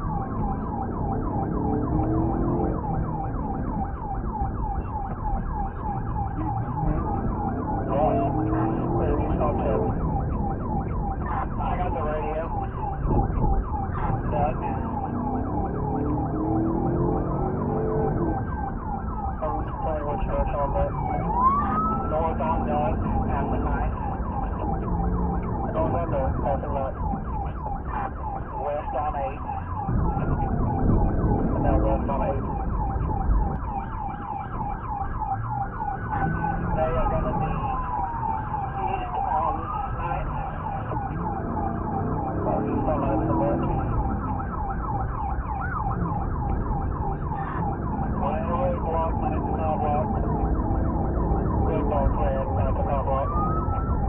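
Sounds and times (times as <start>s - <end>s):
car engine and road noise: 0.0s - 54.0s
police siren yelp and wail: 0.0s - 54.0s.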